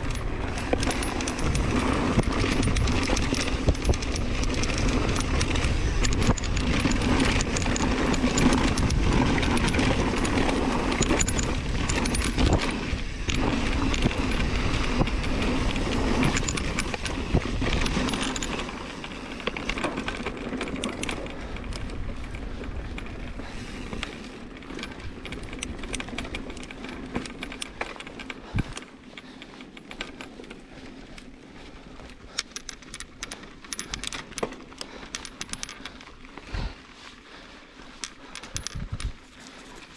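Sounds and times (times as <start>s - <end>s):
bike rattling and clinking: 0.0s - 39.9s
wind and tyre rush: 0.0s - 39.9s.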